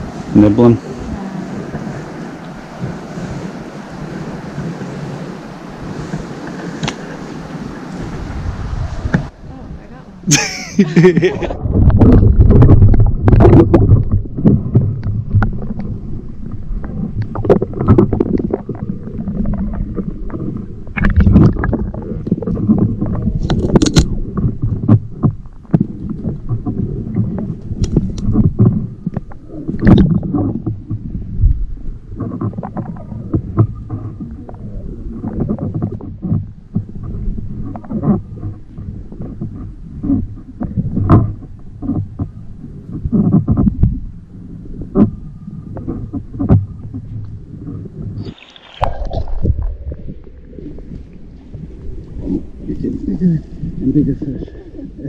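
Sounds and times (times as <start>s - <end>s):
muffled underwater river rumble: 0.0s - 55.0s.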